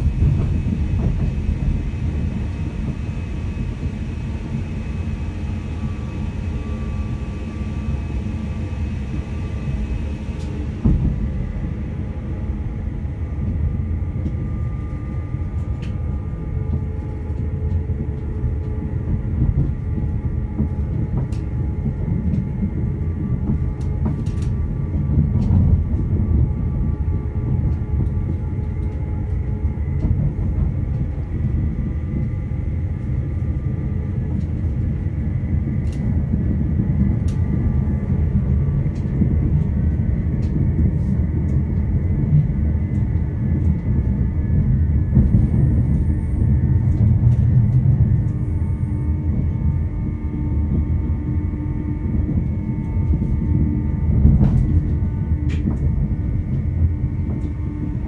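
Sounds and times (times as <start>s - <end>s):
faint steady whine: 0.0s - 58.0s
train wheels rumbling on track: 0.0s - 58.0s.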